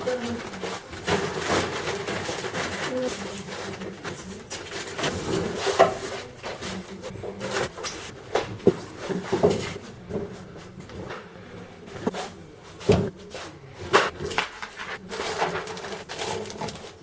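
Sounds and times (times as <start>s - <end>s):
packaging knocks and scrapes: 0.1s - 11.2s, 13.9s - 17.0s.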